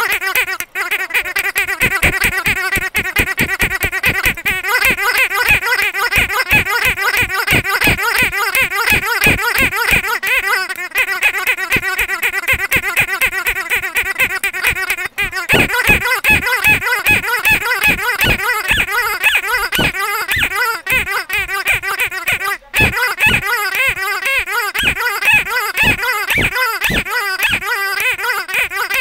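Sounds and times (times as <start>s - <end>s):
squeaky dog toy squeaking: 0.0s - 29.0s.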